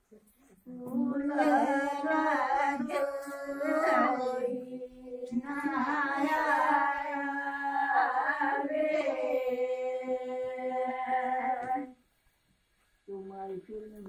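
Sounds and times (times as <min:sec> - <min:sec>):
women singing folk song: 0:00.5 - 0:12.0.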